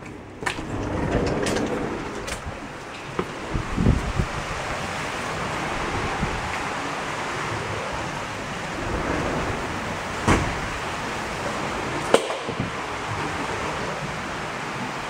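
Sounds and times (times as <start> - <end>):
water rushing and bubbling: 0.0 - 15.0.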